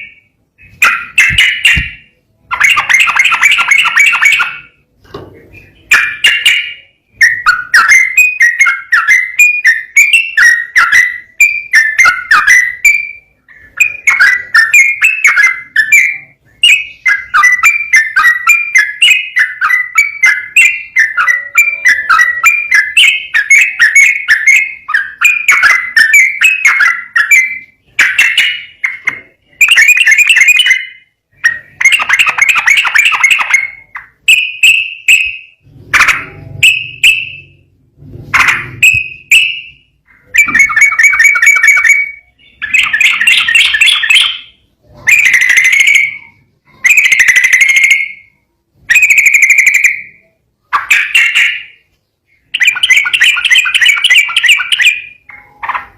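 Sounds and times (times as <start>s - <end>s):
bird singing whistled phrases: 5.5s - 35.6s, 38.8s - 55.7s.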